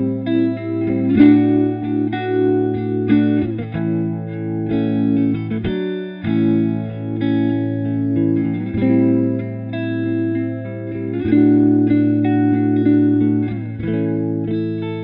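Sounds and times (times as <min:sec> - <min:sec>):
electric guitar with rotary effect: 0:00.0 - 0:15.0.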